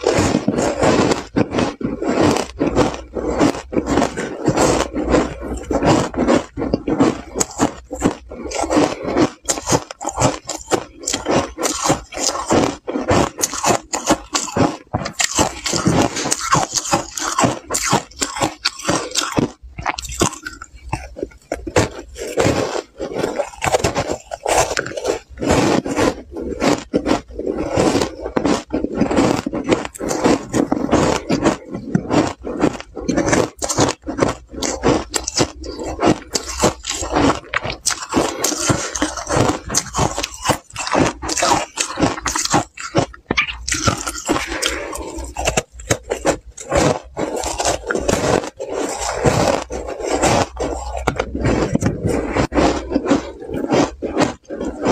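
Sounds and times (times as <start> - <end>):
crunching ice chunks: 0.0 - 54.9.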